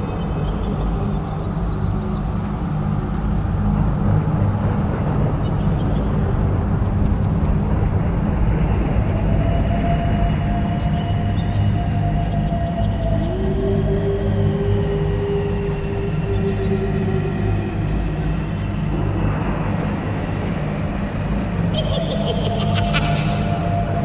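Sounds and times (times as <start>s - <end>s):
deep rumbling drone: 0.0s - 24.0s.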